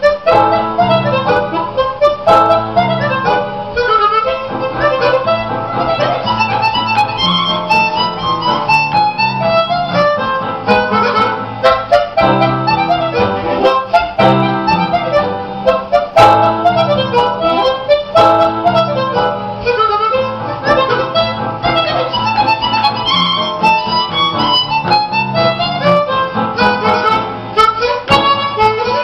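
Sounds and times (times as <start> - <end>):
harmonica melody with accompaniment: 0.0 - 29.0.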